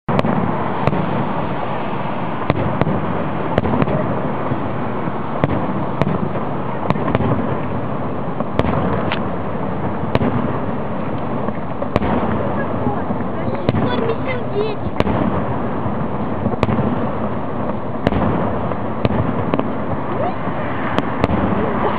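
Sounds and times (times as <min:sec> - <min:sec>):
dense rumble: 0:00.1 - 0:21.9
fireworks bangs: 0:00.1 - 0:21.9.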